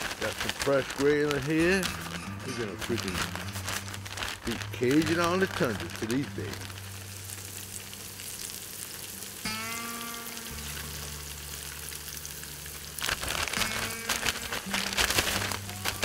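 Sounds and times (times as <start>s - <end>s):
fish sizzling in a pan: 0.0s - 16.0s
plastic bag crinkling: 0.0s - 16.0s.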